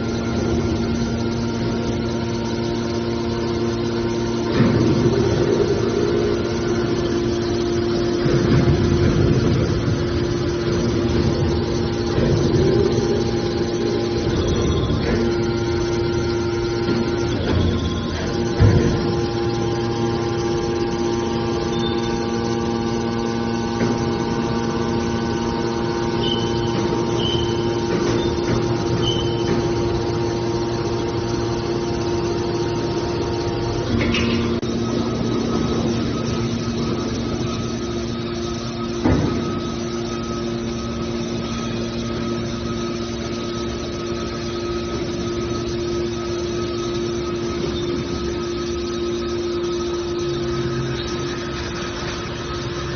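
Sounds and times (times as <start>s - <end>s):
baler machine humming: 0.0s - 52.9s.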